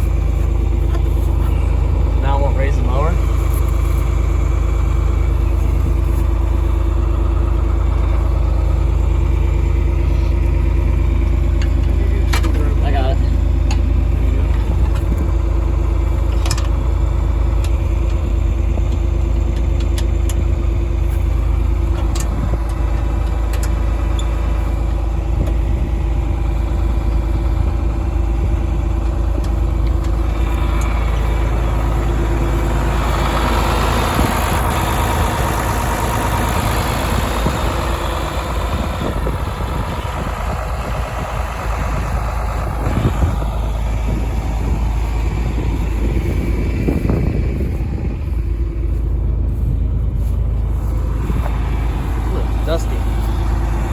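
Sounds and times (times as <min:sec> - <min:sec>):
tractor diesel engine rumbling: 0:00.0 - 0:53.9.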